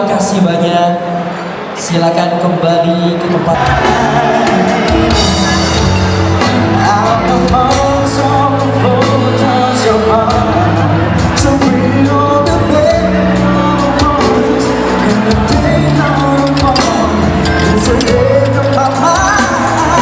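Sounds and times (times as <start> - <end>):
person singing with band: 3.2 - 20.0.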